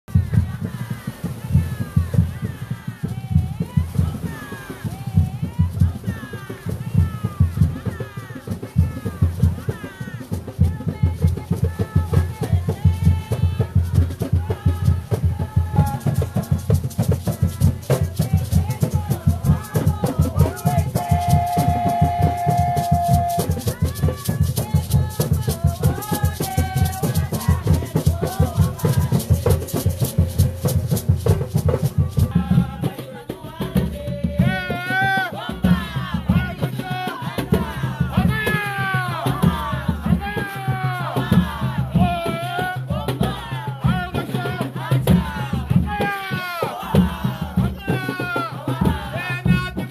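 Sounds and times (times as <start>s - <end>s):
drumming: 0.1s - 49.9s
group singing: 0.1s - 49.9s
rattling shakers: 0.2s - 43.0s.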